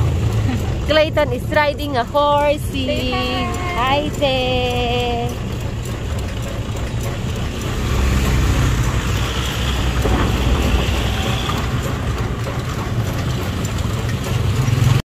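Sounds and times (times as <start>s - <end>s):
horse-drawn carriage rumbling: 0.0s - 15.0s.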